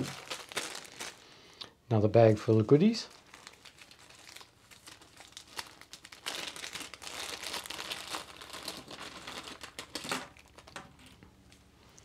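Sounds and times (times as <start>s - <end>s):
plastic bag crinkling: 0.0s - 1.4s, 2.8s - 11.6s.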